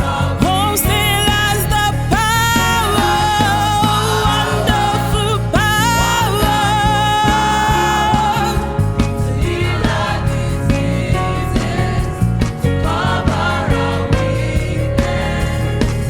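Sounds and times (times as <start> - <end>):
gospel choir singing: 0.0 - 16.0
steady drum beat: 0.0 - 16.0.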